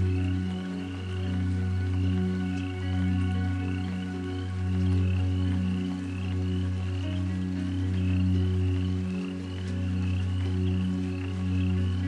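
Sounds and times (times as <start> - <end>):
ambient drone music: 0.0 - 12.0
soft rain hiss: 0.0 - 12.0.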